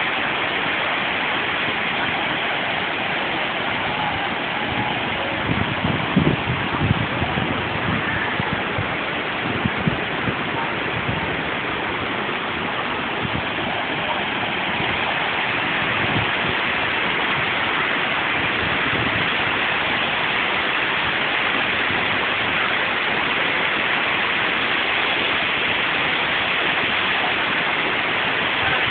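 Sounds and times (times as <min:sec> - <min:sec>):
waterfall rushing and splashing: 0:00.0 - 0:28.9.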